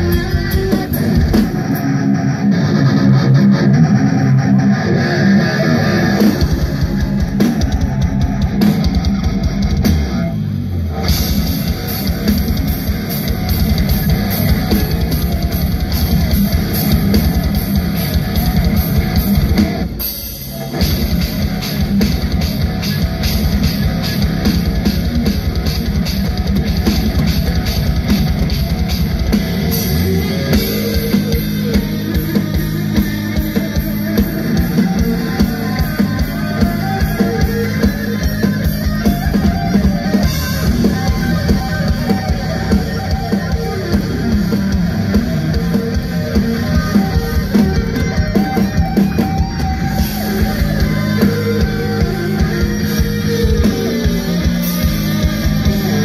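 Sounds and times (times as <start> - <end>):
heavy metal band playing: 0.0 - 56.0.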